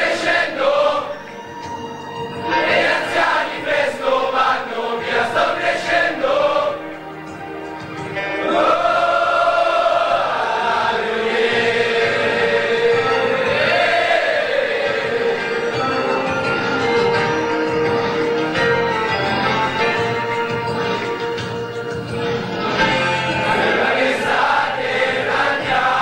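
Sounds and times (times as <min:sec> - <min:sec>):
choir singing with music: 0:00.0 - 0:26.0.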